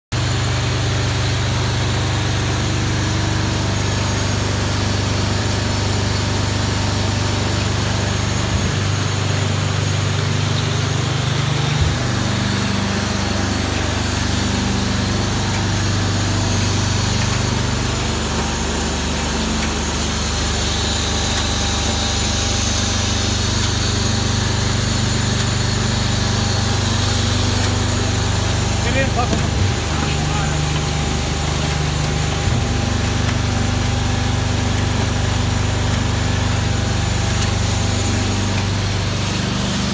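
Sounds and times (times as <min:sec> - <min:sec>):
shotcrete machine humming: 0:00.2 - 0:39.9.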